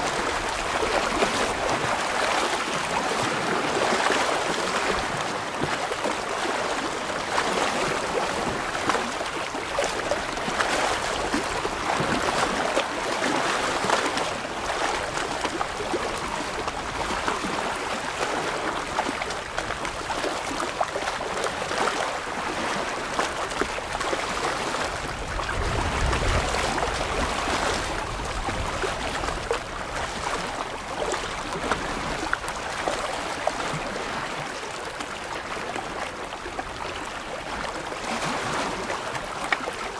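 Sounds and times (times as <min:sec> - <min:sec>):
small waves lapping on rocks: 0:00.0 - 0:39.9.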